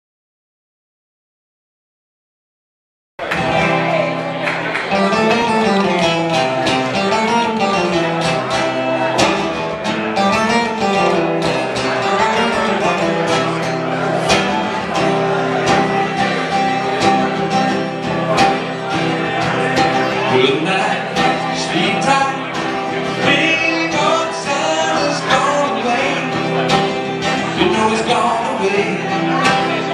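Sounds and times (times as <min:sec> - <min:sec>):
acoustic guitar strumming: 0:03.2 - 0:29.9.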